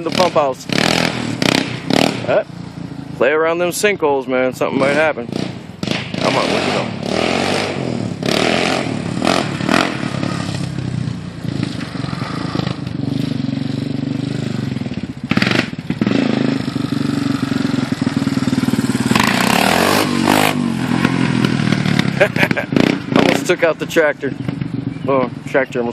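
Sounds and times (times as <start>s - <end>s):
atv engine revving: 0.0s - 25.9s.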